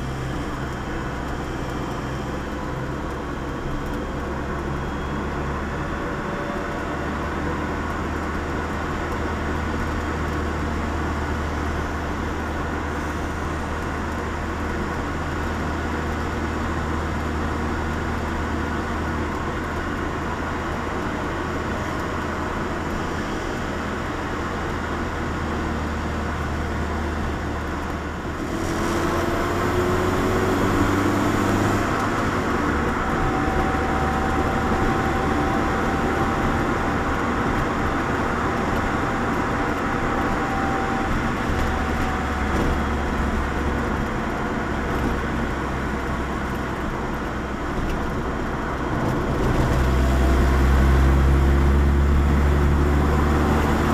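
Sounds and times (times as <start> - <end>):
car engine drone: 0.0 - 53.9
road and wind noise: 0.0 - 53.9.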